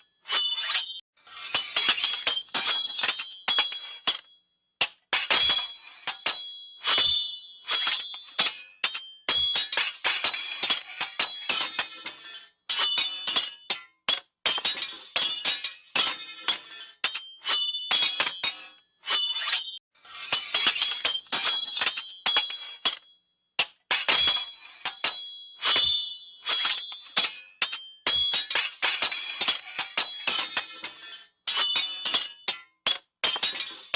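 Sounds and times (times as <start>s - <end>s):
metal blades clashing: 0.0s - 33.9s.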